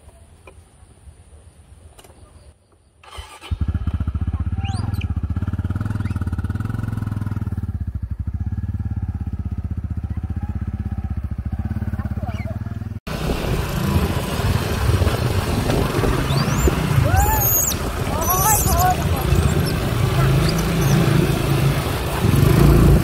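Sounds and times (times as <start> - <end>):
motorbike engine running: 3.3 - 23.0.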